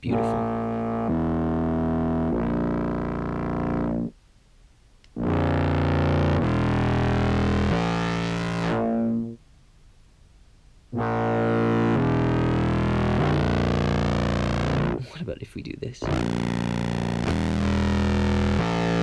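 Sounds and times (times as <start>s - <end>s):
low buzzy clarinet notes: 0.0s - 4.2s, 5.1s - 9.4s, 10.9s - 15.0s, 16.0s - 19.0s.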